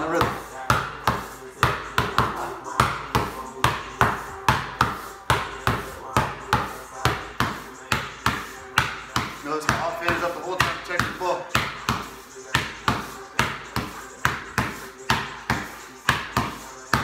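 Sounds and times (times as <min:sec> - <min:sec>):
basketball bouncing on concrete: 0:00.0 - 0:17.0.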